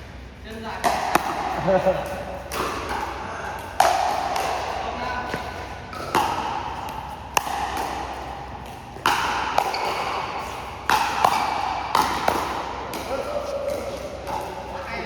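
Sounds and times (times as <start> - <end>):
paddles striking plastic balls: 0.8 - 14.6.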